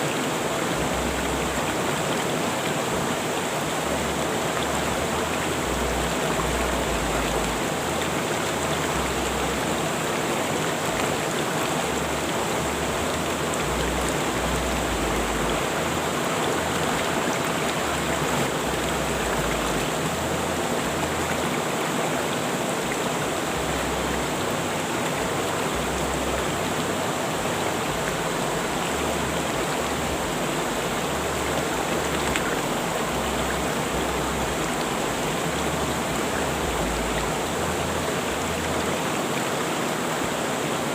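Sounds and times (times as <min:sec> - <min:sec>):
rushing river water: 0:00.0 - 0:40.9.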